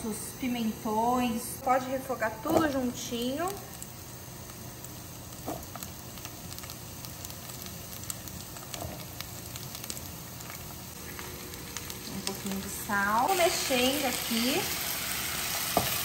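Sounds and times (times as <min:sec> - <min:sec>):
meat sizzling in oil: 0:03.0 - 0:16.0.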